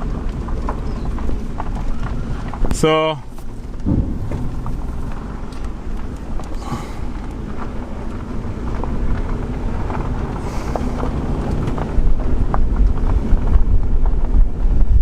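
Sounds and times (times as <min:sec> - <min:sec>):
car engine and road noise: 0:00.0 - 0:15.0
wind buffeting microphone: 0:00.0 - 0:15.0.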